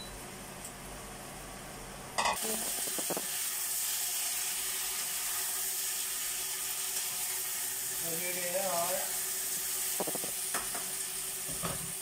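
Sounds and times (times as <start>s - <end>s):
food sizzling in a wok: 2.2s - 12.0s.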